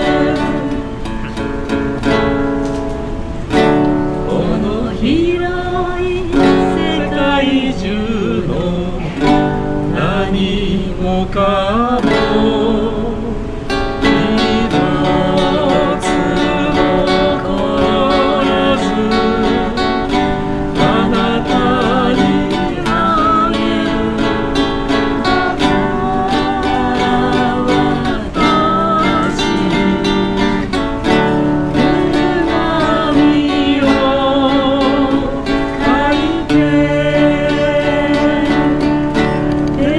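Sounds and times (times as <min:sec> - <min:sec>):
man and woman singing in harmony: 0:00.0 - 0:02.3, 0:03.5 - 0:39.9
acoustic guitar strumming: 0:00.0 - 0:39.9.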